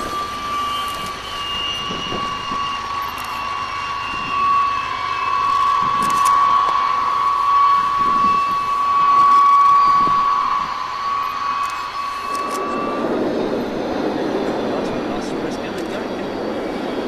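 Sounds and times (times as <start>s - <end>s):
high-pitched whine: 0.0s - 17.0s
propeller aircraft engine running: 0.0s - 17.0s.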